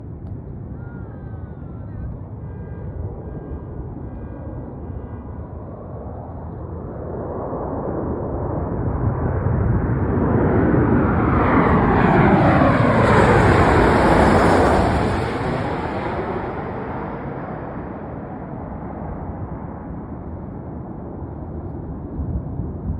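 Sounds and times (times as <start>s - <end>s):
airliner passing low overhead: 0.0s - 22.9s.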